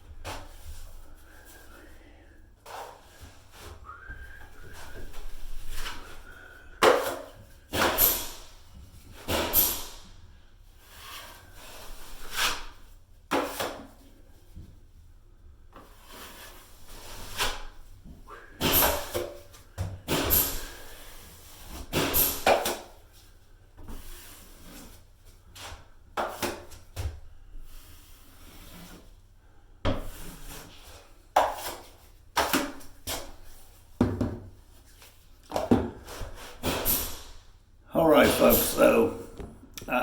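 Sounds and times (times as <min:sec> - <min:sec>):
drywall knife scraping compound: 0:00.0 - 0:10.2, 0:10.8 - 0:14.3, 0:15.7 - 0:29.2, 0:29.8 - 0:37.4.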